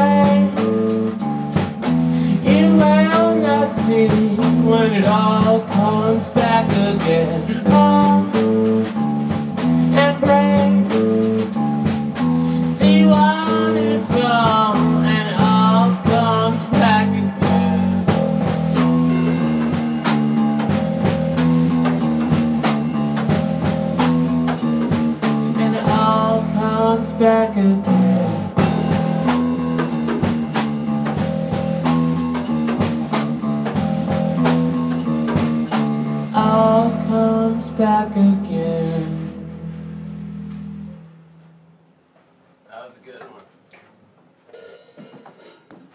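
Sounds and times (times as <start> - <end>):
wavering lead guitar line: 0.0 - 41.2
blues-rock band playing: 0.0 - 41.5.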